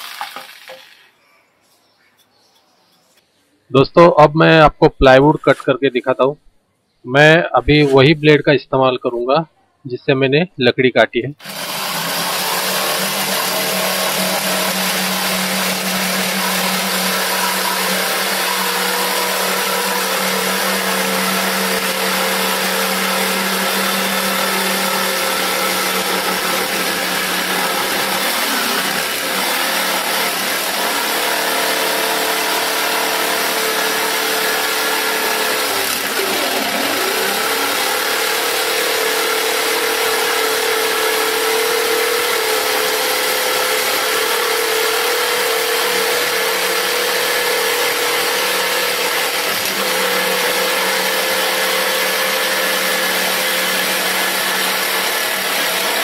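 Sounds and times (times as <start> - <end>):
electric jigsaw sawing wood: 0.0 - 1.2, 11.4 - 56.0.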